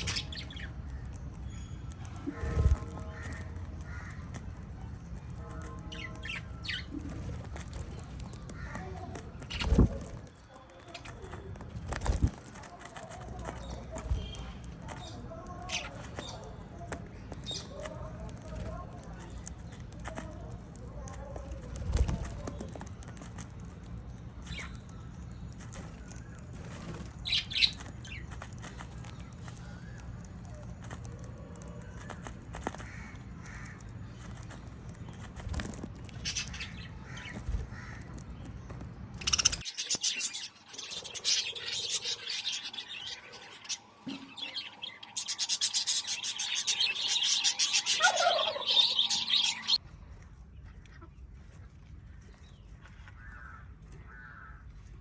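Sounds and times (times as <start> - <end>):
parrots chirping: 0.0 - 49.8.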